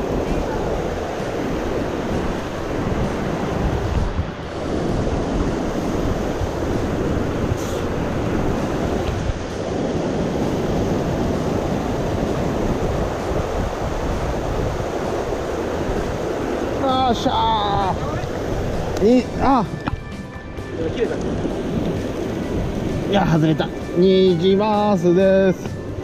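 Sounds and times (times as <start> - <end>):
stream water rushing: 0.0 - 26.0
wind rumble on microphone: 0.0 - 26.0.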